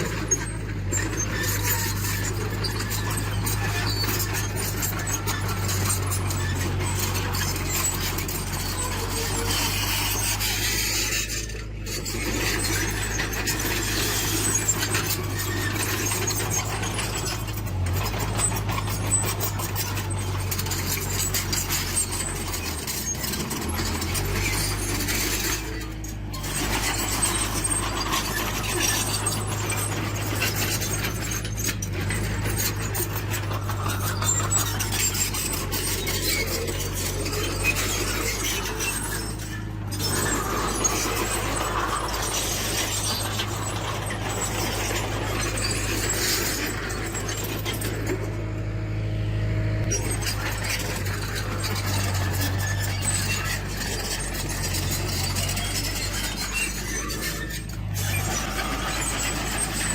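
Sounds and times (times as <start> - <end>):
diesel engine running: 0.0 - 59.9
steel tracks squealing and clattering: 0.0 - 59.9.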